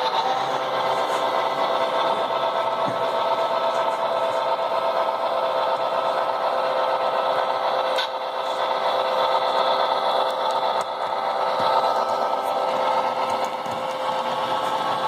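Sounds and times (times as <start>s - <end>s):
model locomotive whirring: 0.0s - 15.0s.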